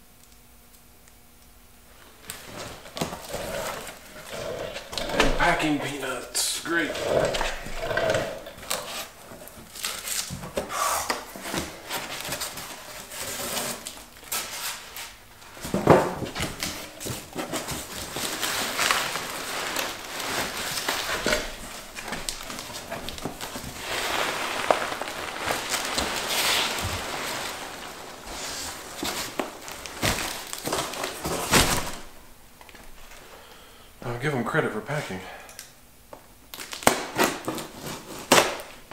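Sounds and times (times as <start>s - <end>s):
packing peanuts rustling: 2.1s - 33.6s, 36.5s - 38.9s
cardboard scraping and crinkling: 2.3s - 32.2s, 37.2s - 38.7s.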